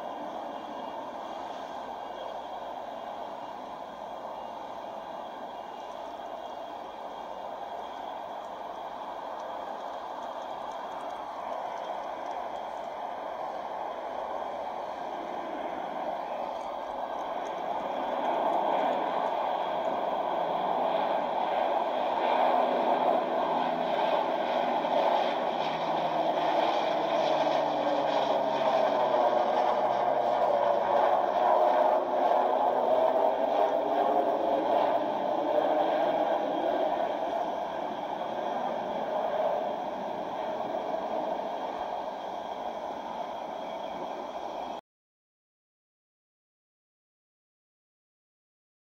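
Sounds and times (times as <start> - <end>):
propeller airplane passing overhead: 0.0 - 44.8.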